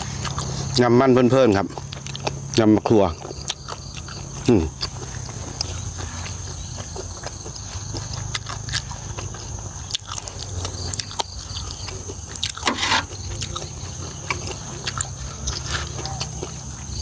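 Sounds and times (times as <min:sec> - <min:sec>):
chewing and smacking: 0:00.0 - 0:17.0.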